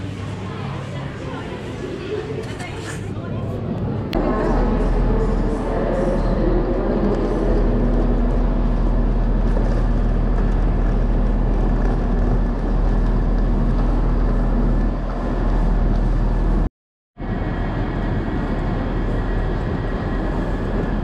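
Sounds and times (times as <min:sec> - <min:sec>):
low droning hum: 0:00.0 - 0:21.0
loud rumble: 0:03.6 - 0:21.0.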